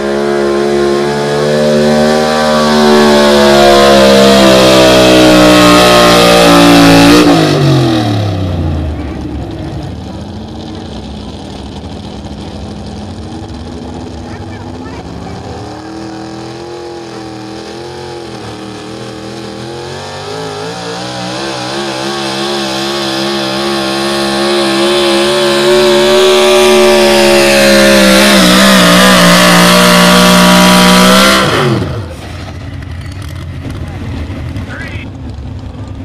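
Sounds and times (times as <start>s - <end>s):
truck engine revving under load: 0.0s - 36.0s.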